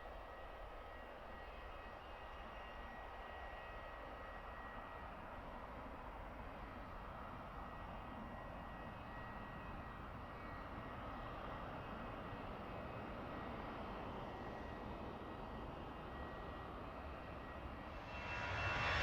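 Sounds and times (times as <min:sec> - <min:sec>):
distant jet airliner engine: 0:00.0 - 0:19.0
thin steady whine: 0:00.0 - 0:19.0.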